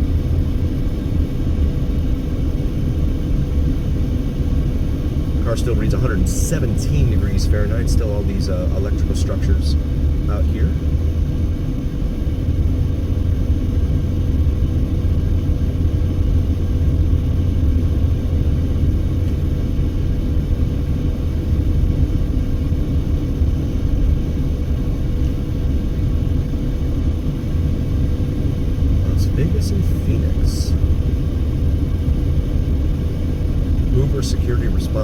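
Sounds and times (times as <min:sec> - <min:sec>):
car cabin road noise: 0:00.0 - 0:35.0
faint steady hum: 0:00.0 - 0:35.0.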